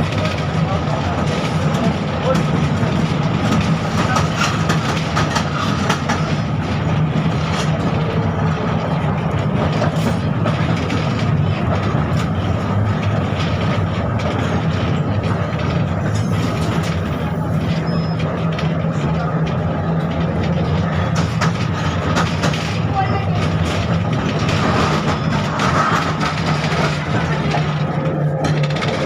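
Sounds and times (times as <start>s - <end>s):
tram wheels and motors rumbling: 0.0s - 29.0s.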